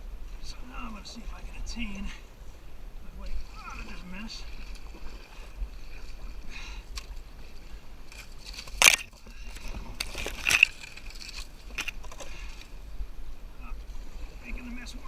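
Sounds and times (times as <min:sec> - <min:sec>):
canoe paddle strokes splashing: 0:00.9 - 0:15.0.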